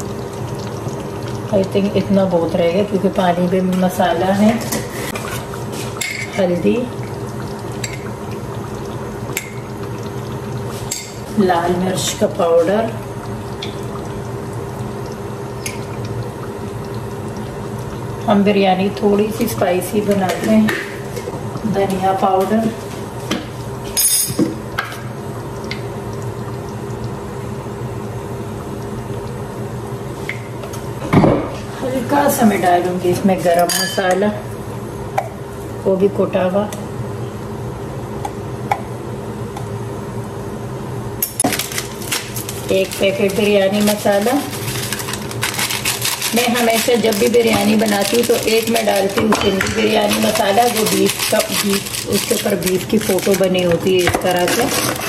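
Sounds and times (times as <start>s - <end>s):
pot cooking on gas hob: 0.0s - 55.0s.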